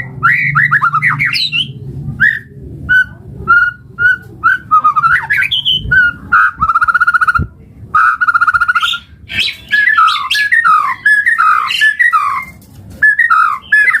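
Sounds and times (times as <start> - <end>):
songbird singing trills and whistles: 0.2 - 14.0.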